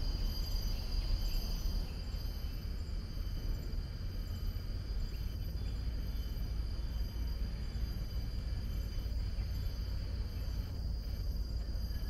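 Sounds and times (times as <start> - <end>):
constant low rumble: 0.0 - 12.0
insects droning: 0.0 - 12.0.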